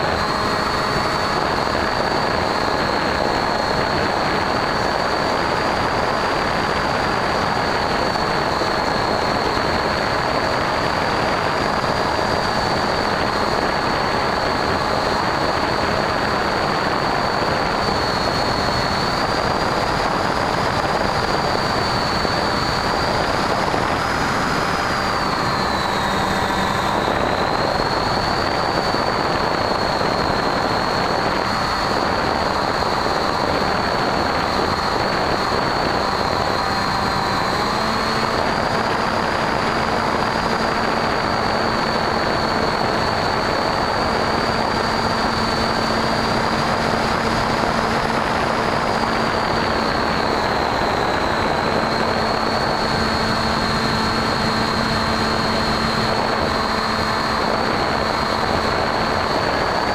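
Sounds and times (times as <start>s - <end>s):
electric motor whine: 0.0s - 59.9s
propeller and wind rush: 0.0s - 59.9s.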